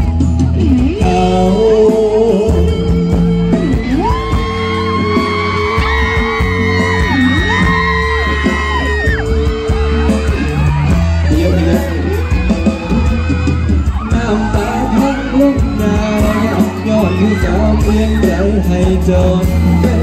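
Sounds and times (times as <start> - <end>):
amplified live band playing pop: 0.0 - 20.0
fans yelling and whooping: 0.0 - 20.0.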